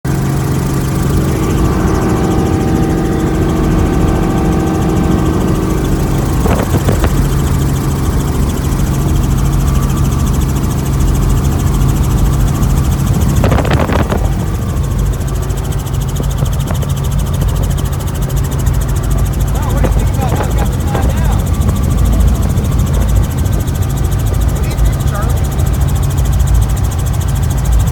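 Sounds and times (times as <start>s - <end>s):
helicopter engine and rotor drone: 0.0s - 27.9s.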